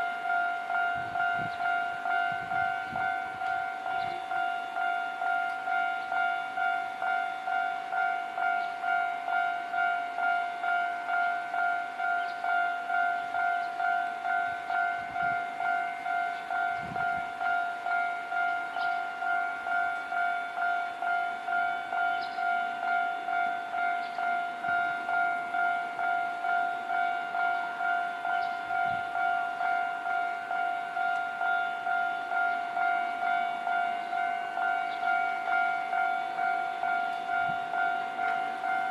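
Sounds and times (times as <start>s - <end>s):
level crossing bell clanging: 0.0s - 38.9s.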